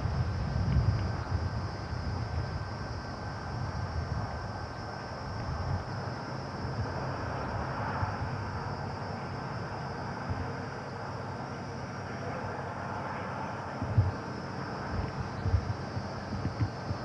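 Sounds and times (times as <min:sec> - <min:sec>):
constant hiss: 0:00.0 - 0:17.0.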